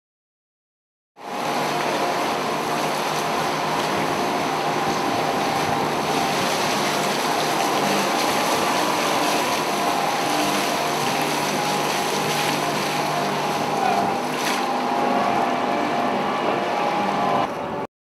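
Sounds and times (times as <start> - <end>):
wind and water rushing: 1.2 - 17.8
boat engine running: 1.2 - 17.9.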